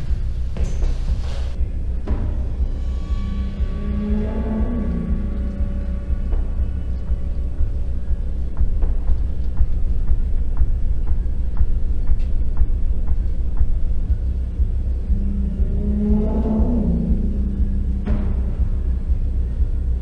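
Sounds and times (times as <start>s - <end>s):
low rumbling drone: 0.0s - 20.0s.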